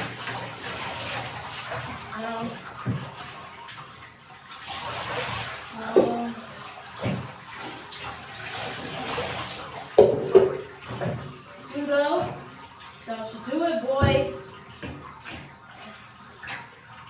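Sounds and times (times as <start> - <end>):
water splashing in a bathtub: 0.0 - 17.0.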